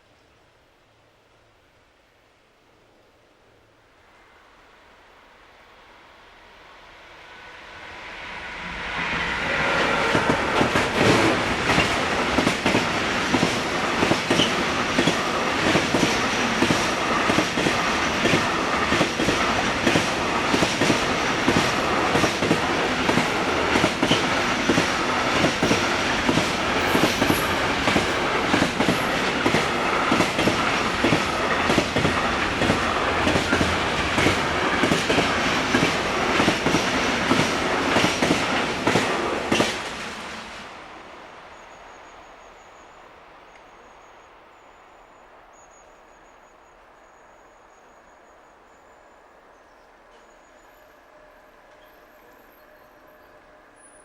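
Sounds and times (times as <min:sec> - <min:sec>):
freight train passing: 0:03.5 - 0:54.0.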